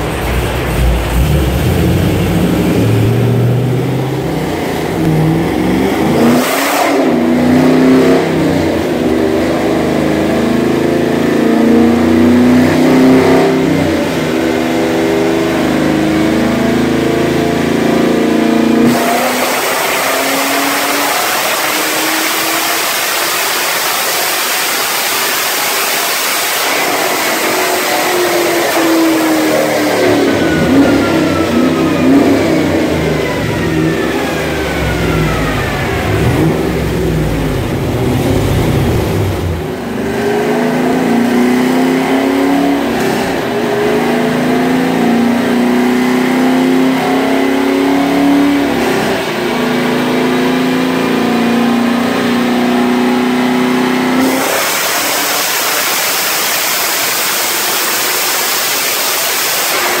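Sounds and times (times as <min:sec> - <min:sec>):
car engine revving on a dyno: 0:00.0 - 1:00.0.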